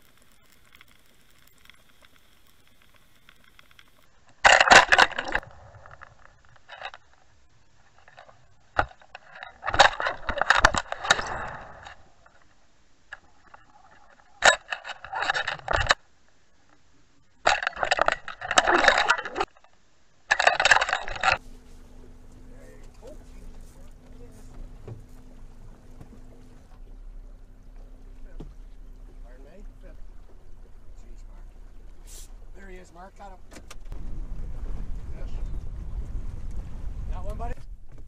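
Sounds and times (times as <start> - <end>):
underwater rattling and scraping: 0.0 - 38.0.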